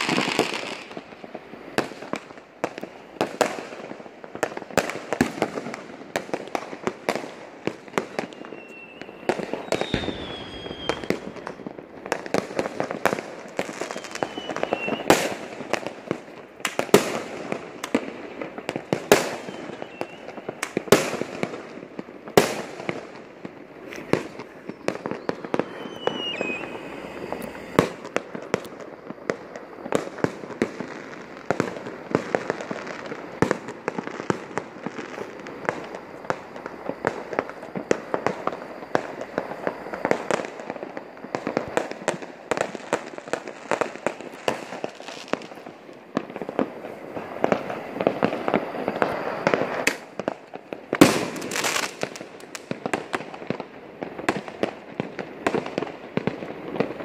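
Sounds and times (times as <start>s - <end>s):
fireworks bangs and pops: 0.0s - 57.0s
fireworks crackle: 0.0s - 57.0s
fireworks whistles: 0.0s - 57.0s.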